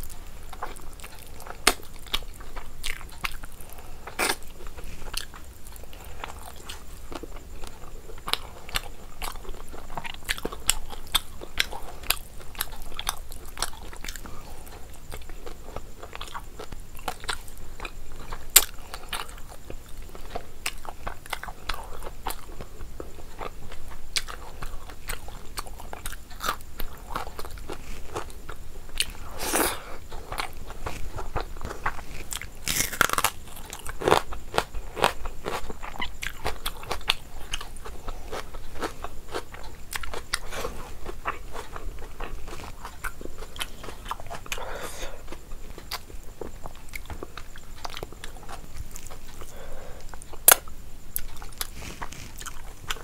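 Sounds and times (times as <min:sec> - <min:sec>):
person chewing wet food: 0:00.0 - 0:53.0.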